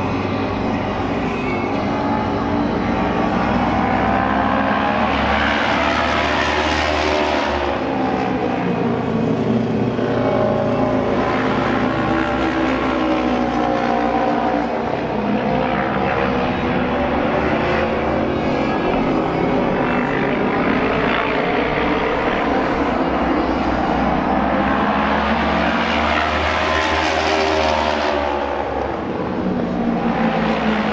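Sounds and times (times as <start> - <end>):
racing motorcycle engines: 0.0 - 30.9.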